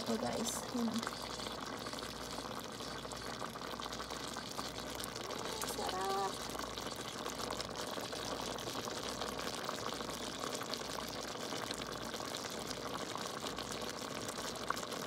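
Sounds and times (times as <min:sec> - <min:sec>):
sauce bubbling in a pan: 0:00.0 - 0:15.0.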